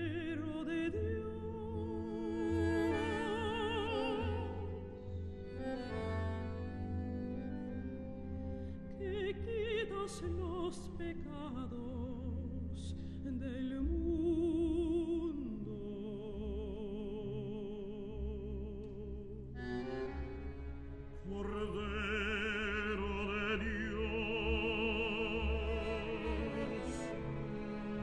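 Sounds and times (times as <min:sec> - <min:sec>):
operatic singing: 0:00.0 - 0:07.6, 0:08.9 - 0:28.0
classical music: 0:00.0 - 0:28.0.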